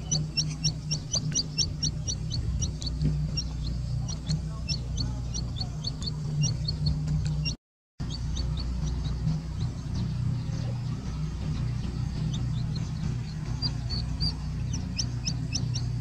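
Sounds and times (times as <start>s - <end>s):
chick peeping: 0.0s - 16.0s
steady low hum: 0.0s - 16.0s.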